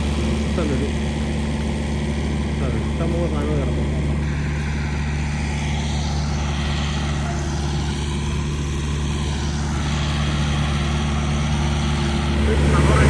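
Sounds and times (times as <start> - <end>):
refrigeration unit engine and fan drone: 0.0 - 13.0.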